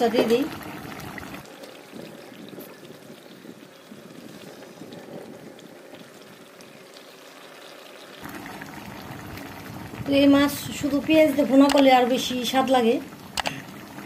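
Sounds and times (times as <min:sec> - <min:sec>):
gravy bubbling in a pot: 0:00.0 - 0:14.0.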